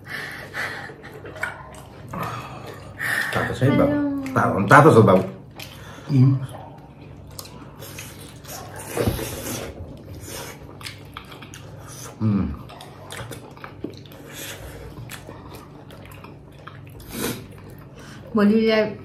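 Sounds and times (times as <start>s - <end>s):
person chewing food: 0.0s - 18.3s.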